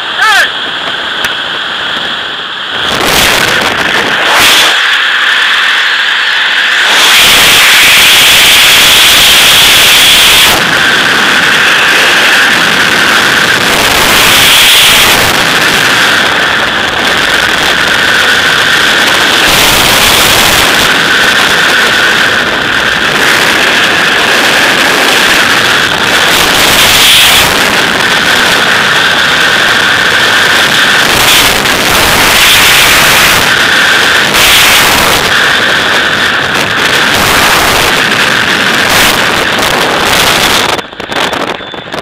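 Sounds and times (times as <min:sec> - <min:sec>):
freefall wind buffeting microphone: 0:00.0 - 0:42.0.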